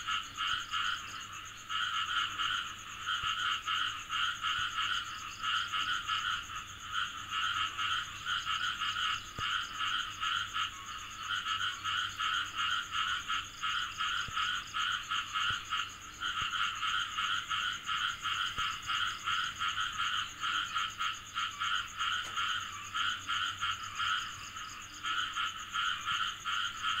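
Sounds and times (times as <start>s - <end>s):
frogs croaking in chorus: 0.0s - 27.0s.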